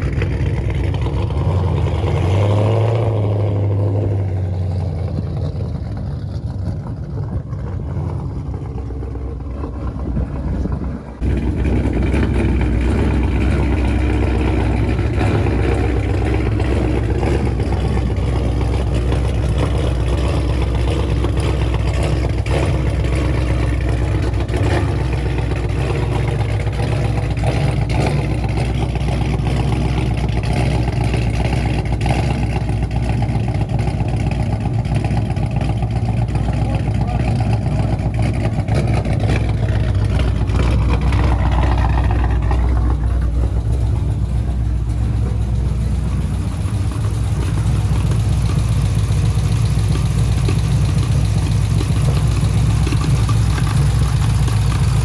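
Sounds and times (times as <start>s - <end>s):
engine idling with rapid knock: 0.0s - 2.5s, 4.0s - 55.0s
engine revving: 0.0s - 55.0s.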